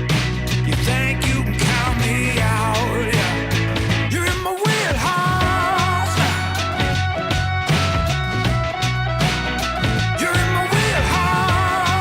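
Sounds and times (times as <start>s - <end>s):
rock song with full band: 0.0s - 12.0s.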